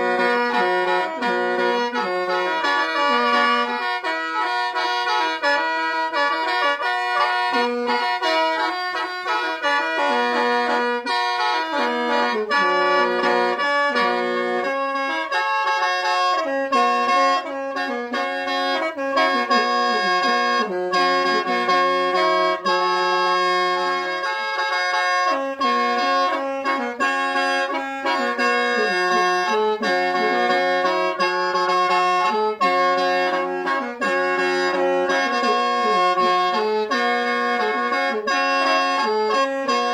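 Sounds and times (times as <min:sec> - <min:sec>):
mouth organ melody with drone: 0:00.0 - 0:39.9.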